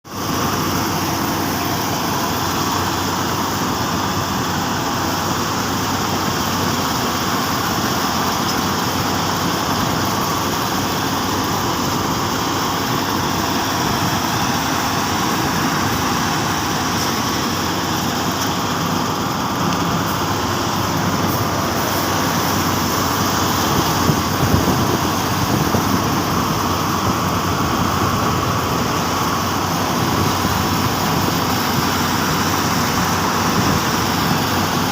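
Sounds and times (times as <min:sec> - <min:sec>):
combine harvester running: 0:00.1 - 0:34.9.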